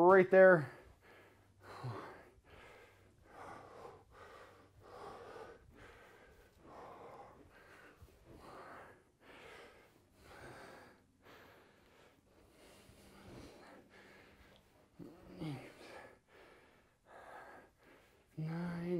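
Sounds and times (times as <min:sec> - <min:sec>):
man breathing hard: 0:00.6 - 0:18.6.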